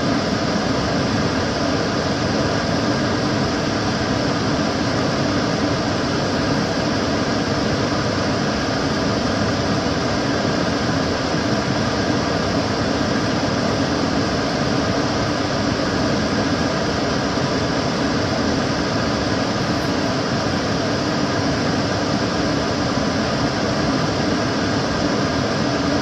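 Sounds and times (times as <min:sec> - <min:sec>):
extractor fan rush of air: 0:00.0 - 0:26.0
fan low hum: 0:00.0 - 0:26.0.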